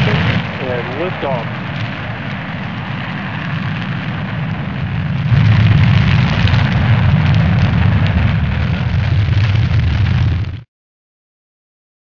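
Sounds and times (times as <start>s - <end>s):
rocket engine roaring: 0.0s - 10.7s.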